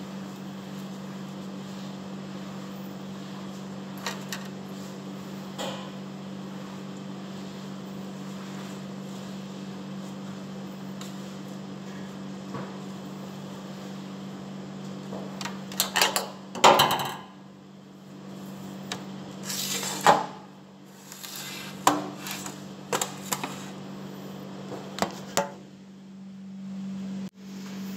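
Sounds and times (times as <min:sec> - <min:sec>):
kitchen equipment humming: 0:00.0 - 0:27.9.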